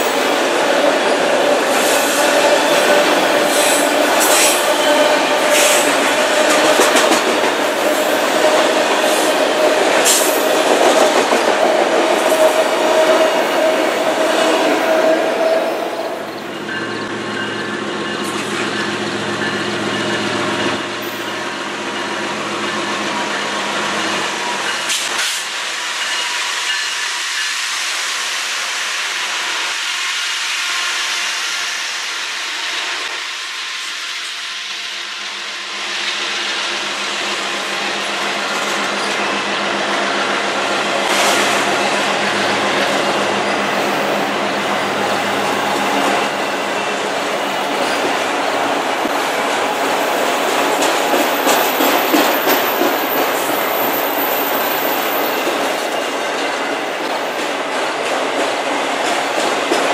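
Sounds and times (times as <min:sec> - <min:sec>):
train wheels rolling: 0:00.0 - 0:27.9, 0:33.8 - 0:59.9.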